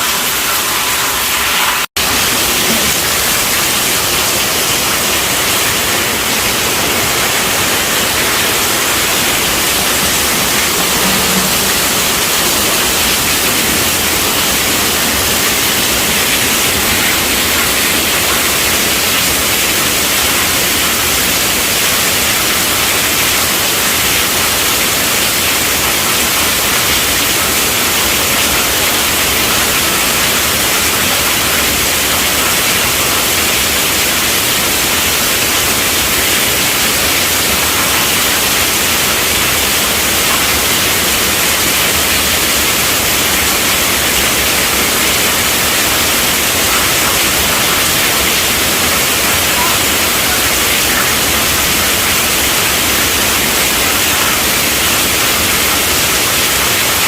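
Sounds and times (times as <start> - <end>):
heavy rain on a tent roof: 0.0 - 57.0.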